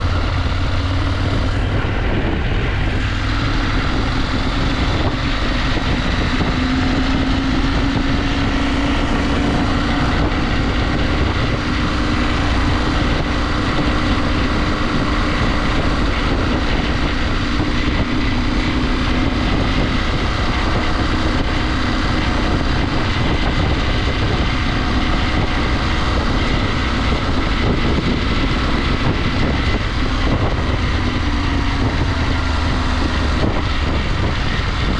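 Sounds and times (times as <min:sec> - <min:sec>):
motorcycle engine running: 0:00.0 - 0:34.9
riding wind noise: 0:00.0 - 0:34.9.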